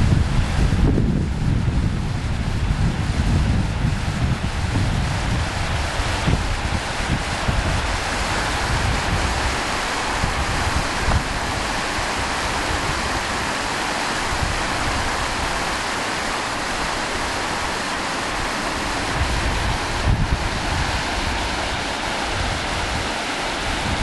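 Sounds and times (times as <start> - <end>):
stream running over rocks: 0.0 - 24.0
wind buffeting microphone: 0.0 - 24.0.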